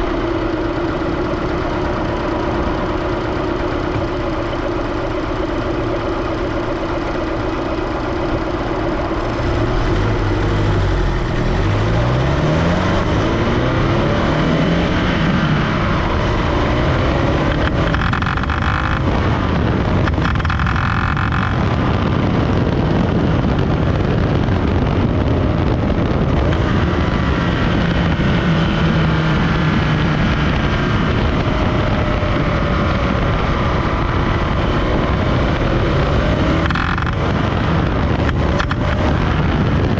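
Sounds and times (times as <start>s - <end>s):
car engine running under load: 0.0s - 39.9s
wind noise: 0.0s - 39.9s.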